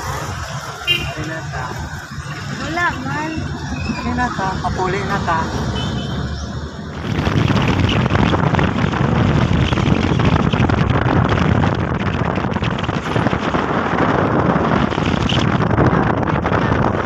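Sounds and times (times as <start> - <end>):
truck road noise: 0.0 - 17.0
wind buffeting microphone: 0.0 - 17.0.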